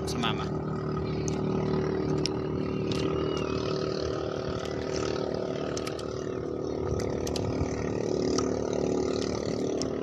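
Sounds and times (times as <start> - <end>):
small boat engine running: 0.0 - 10.0.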